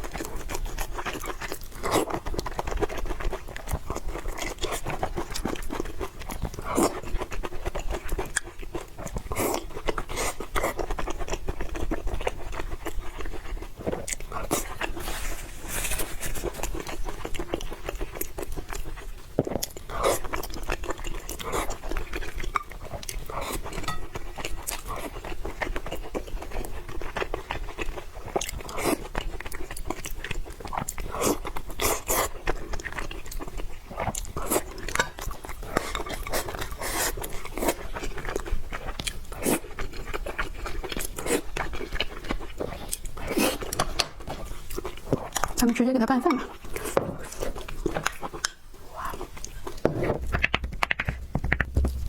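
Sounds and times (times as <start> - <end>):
chewing and biting food: 0.0 - 52.0.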